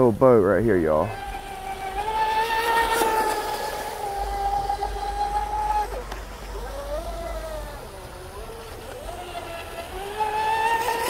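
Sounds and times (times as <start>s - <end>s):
rc boat motor whine: 0.0s - 11.0s.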